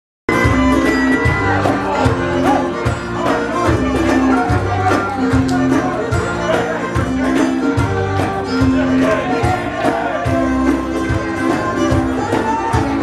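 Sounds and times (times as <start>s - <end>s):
celtic band playing: 0.3s - 13.0s
steady drum beat: 0.3s - 13.0s.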